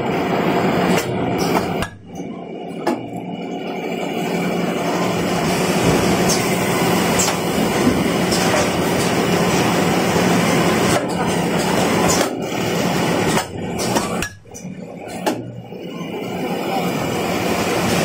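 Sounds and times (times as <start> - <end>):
machine humming and rattling: 0.0 - 18.0.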